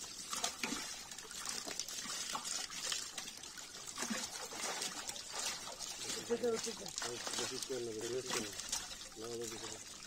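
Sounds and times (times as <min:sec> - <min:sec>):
small sharp splashes: 0:00.0 - 0:10.0
water splashing and trickling: 0:00.0 - 0:10.0.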